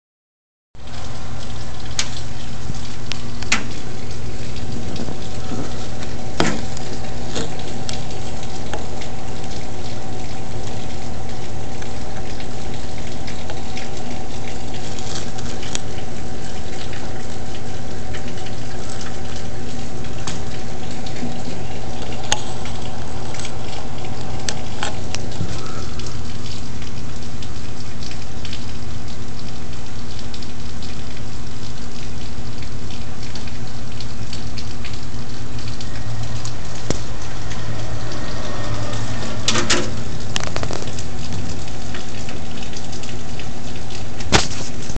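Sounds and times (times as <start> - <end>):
rain pattering on a roof: 0.8 - 45.0.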